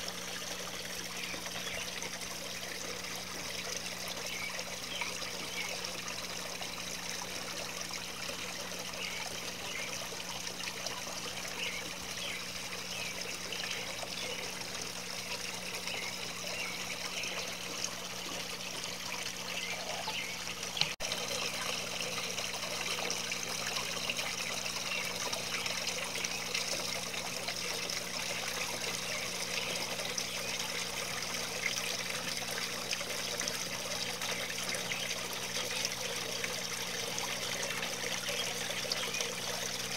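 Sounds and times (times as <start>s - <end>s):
fountain water trickling: 0.0s - 39.9s.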